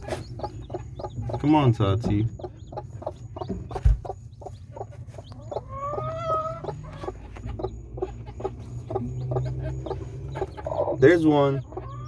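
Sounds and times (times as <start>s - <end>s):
hen clucking: 0.0s - 12.0s.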